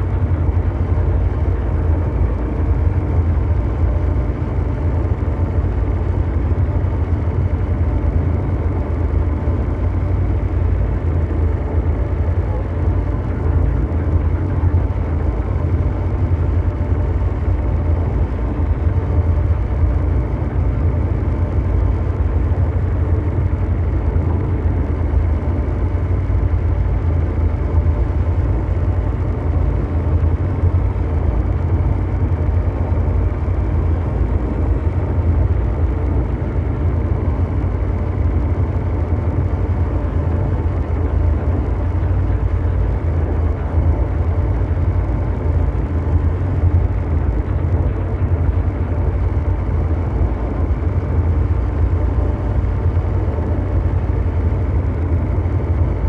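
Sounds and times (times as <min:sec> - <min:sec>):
deep mechanical rumble: 0:00.0 - 0:56.0
faint whir and hum: 0:00.0 - 0:56.0.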